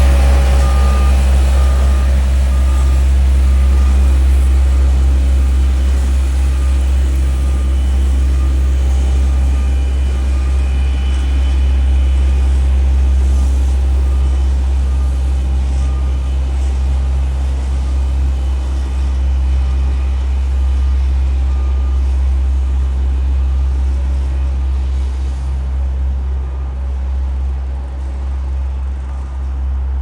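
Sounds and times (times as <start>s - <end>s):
diesel machinery engine rumble: 0.0s - 30.0s.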